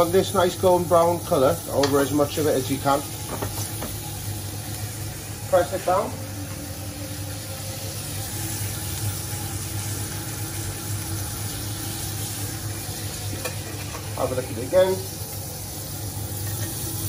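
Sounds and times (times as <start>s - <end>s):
cauliflower sizzling in butter: 0.0s - 17.0s.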